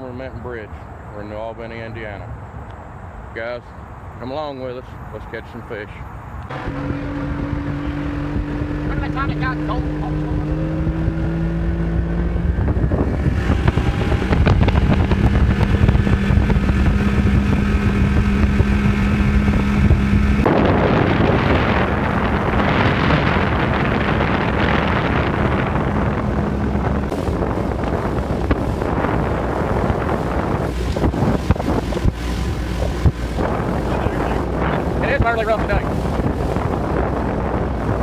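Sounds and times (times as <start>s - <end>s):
rush of wind and water: 4.3s - 38.0s
wind buffeting microphone: 6.1s - 38.0s
boat motor running: 6.5s - 38.0s.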